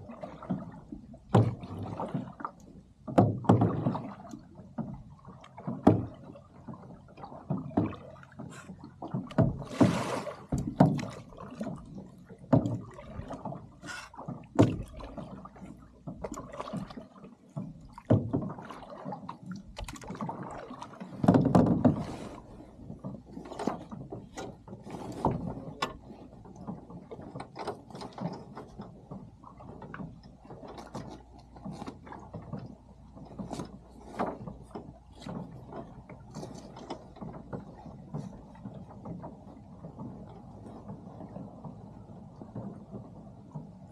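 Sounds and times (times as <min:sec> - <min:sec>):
water splashing against boat hull: 0:00.0 - 0:43.9.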